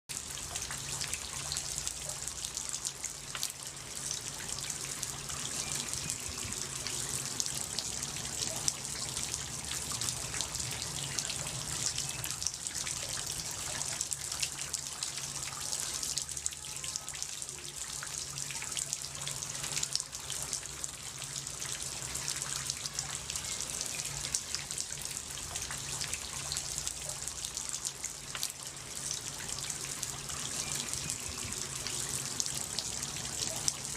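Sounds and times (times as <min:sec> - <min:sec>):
fine water drips: 0:00.1 - 0:33.9
water trickling and splashing: 0:00.1 - 0:33.9.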